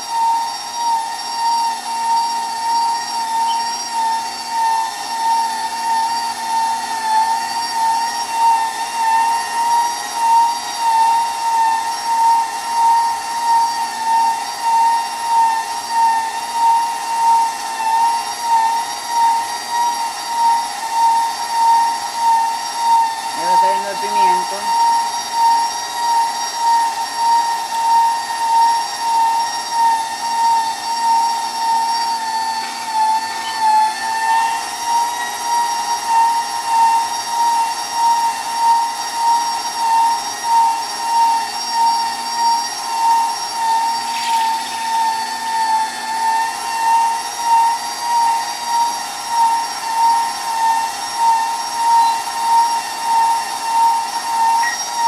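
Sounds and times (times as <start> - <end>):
stand mixer motor whine: 0.0 - 55.0.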